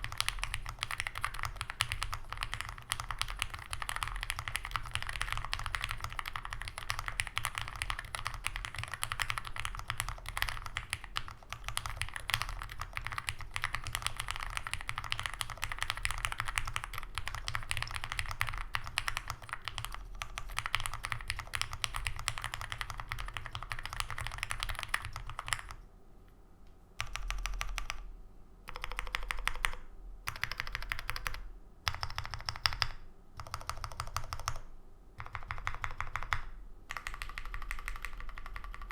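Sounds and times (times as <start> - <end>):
mechanical keyboard typing: 0.0 - 25.8, 27.0 - 28.1, 28.7 - 38.9.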